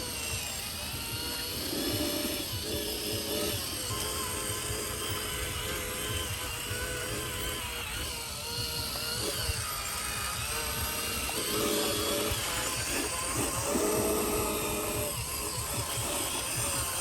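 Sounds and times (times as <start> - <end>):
small electric motors whirring: 0.0 - 17.0.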